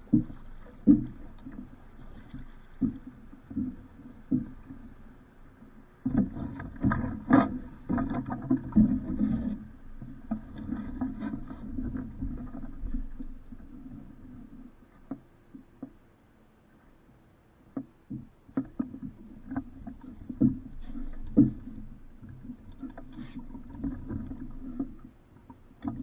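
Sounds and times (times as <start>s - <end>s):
water splashing against hull: 0.0s - 16.4s, 17.7s - 26.0s.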